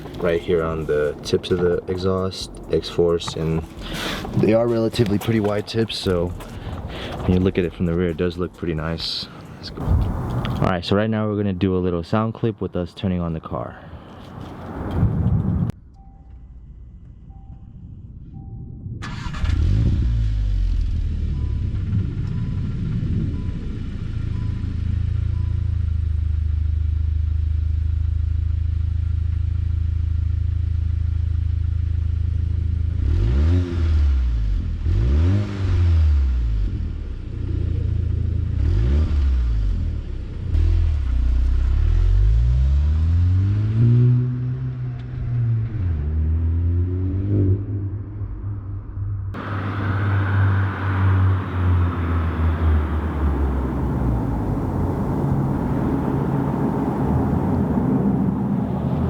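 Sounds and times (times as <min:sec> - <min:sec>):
car engine idling and revving: 0:00.0 - 0:10.8, 0:14.1 - 0:59.0.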